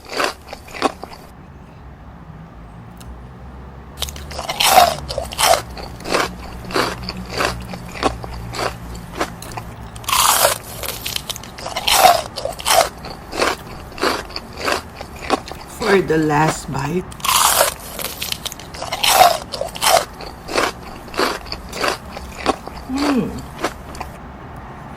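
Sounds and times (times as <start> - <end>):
crunchy chewing: 0.0 - 1.3, 4.0 - 24.2.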